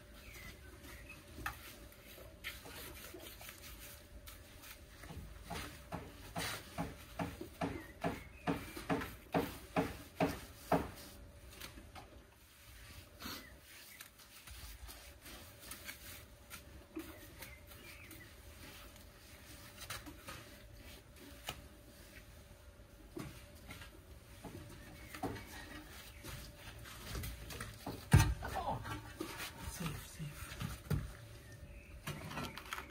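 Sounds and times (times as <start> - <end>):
quiet knocks and scrapes: 0.2 - 32.9.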